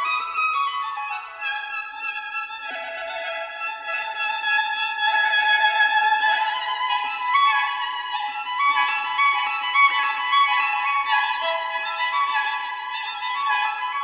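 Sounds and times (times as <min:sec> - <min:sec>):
violin background music: 0:00.0 - 0:14.0.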